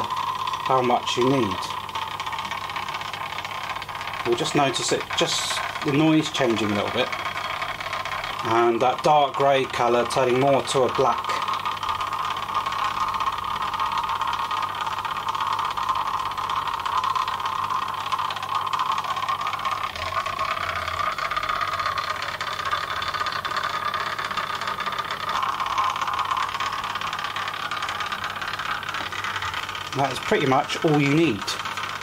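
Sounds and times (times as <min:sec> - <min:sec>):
magnetic stirrer hum: 0:00.0 - 0:32.0.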